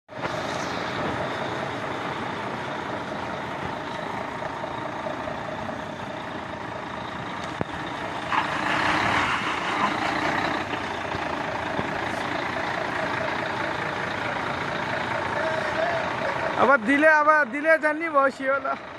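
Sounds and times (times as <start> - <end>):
truck engine running: 0.1 - 18.9.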